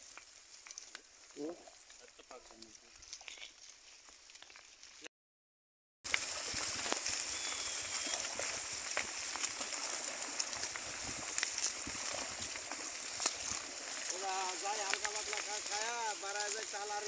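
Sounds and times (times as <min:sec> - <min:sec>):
pigs rooting and chewing: 0:00.0 - 0:05.1, 0:06.1 - 0:17.0.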